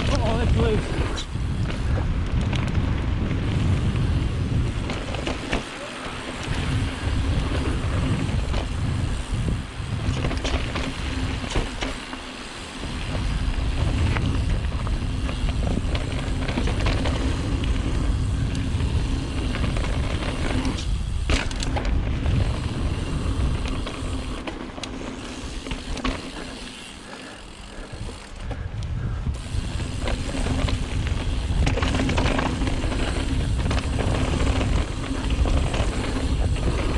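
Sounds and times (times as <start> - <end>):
wind on microphone: 0.0 - 11.8, 12.8 - 24.4, 27.4 - 36.9
bike knocks and rattles: 0.0 - 28.7, 29.3 - 36.9
bike tyres rumbling: 0.0 - 36.9.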